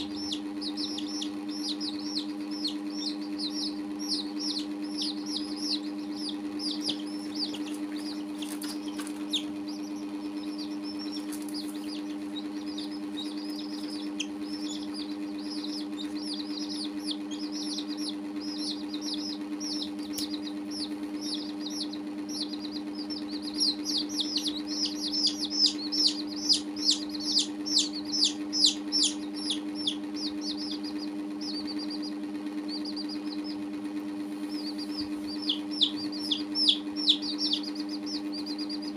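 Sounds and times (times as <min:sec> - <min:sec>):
chicks and duckling peeping: 0:00.0 - 0:38.9
steady low hum: 0:00.0 - 0:38.9.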